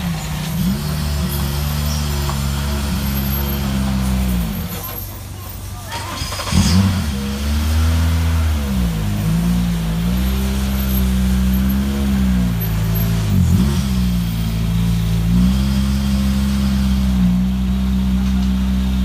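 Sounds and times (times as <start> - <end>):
turbocharged car engine idling: 0.0 - 19.0.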